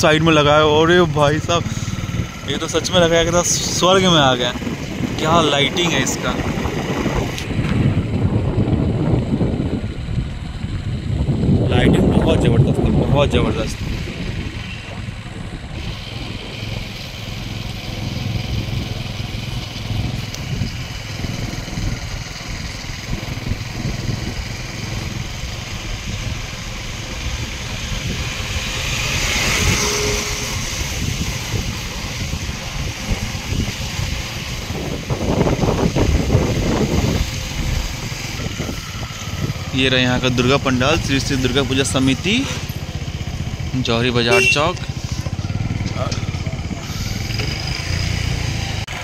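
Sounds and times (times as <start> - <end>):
wind on microphone: 0.0 - 43.7, 44.4 - 49.0
motorcycle engine rumbling: 0.0 - 49.0.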